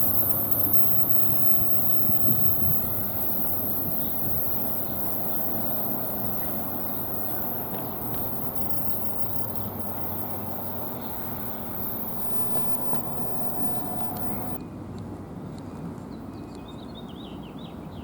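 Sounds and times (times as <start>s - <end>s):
train rumbling: 0.0s - 14.6s.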